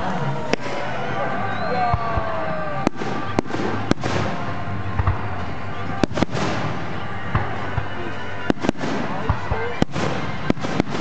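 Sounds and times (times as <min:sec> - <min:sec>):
crackling of burning fireworks: 0:00.0 - 0:11.0
firework bangs: 0:00.4 - 0:11.0.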